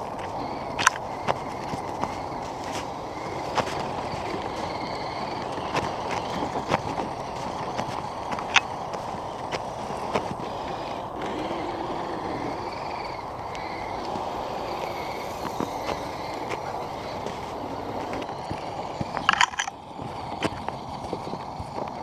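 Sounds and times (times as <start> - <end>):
toy truck motor whirring: 0.0 - 22.0.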